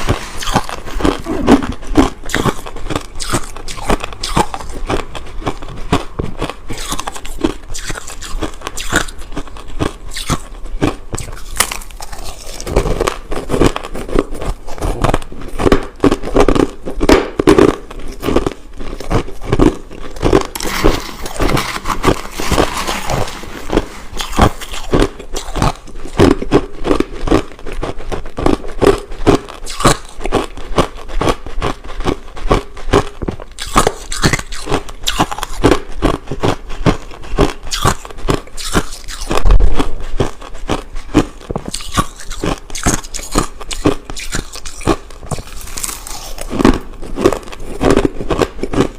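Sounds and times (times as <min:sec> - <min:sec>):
crushed ice being chewed: 0:00.0 - 0:48.9.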